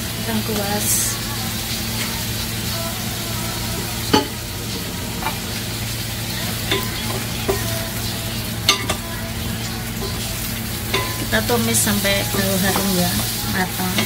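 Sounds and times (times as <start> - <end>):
spice paste sizzling: 0.0 - 14.0.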